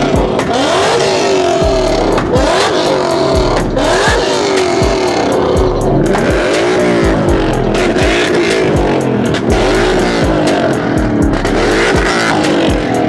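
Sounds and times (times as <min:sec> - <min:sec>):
car engine revving: 0:00.0 - 0:13.0
music with heavy bass beat: 0:00.0 - 0:13.0.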